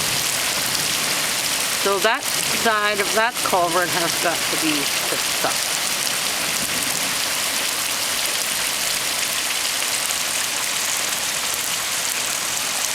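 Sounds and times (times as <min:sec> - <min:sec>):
rain falling: 0:00.0 - 0:12.9.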